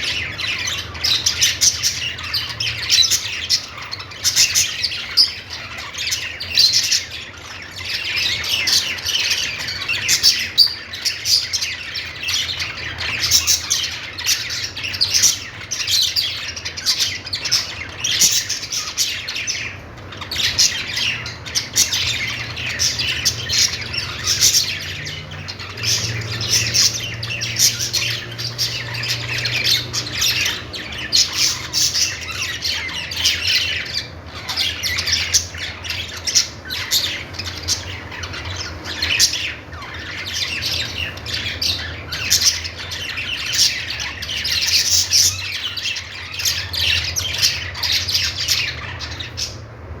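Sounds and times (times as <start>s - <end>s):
budgerigars chirping: 0.0s - 50.0s.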